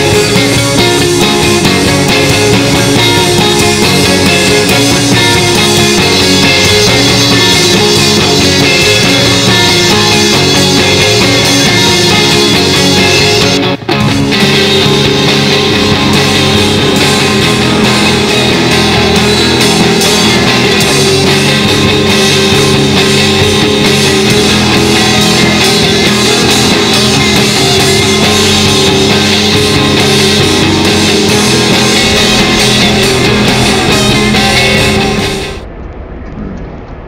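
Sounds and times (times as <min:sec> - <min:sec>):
drums: 0:00.0 - 0:37.0
electric guitar: 0:00.0 - 0:37.0.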